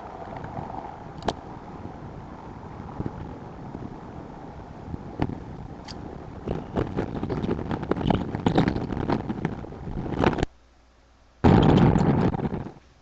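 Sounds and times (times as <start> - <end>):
wind buffeting microphone: 0.0 - 10.5, 11.4 - 12.8.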